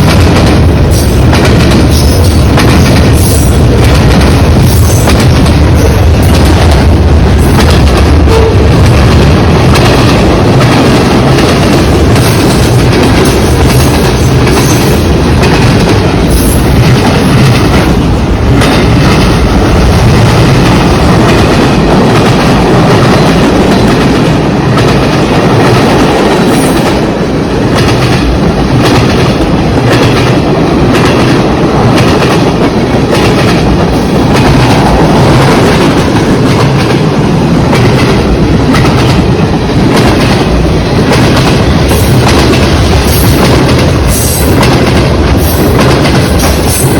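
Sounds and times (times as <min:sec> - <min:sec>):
freight train cars rumbling past: 0:00.0 - 0:46.9
train wheels clicking on rail joints: 0:00.0 - 0:46.9.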